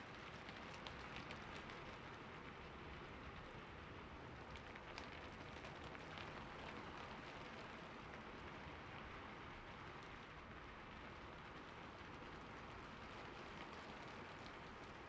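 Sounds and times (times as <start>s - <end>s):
rain falling on a roof: 0.0s - 15.0s.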